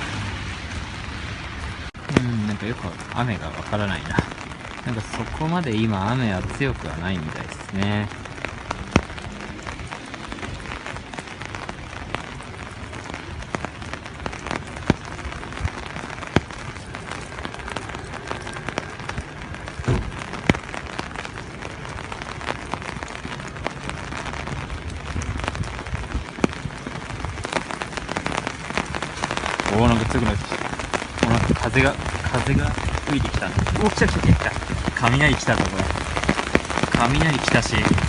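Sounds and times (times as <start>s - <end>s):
light rain falling: 0.0s - 38.0s.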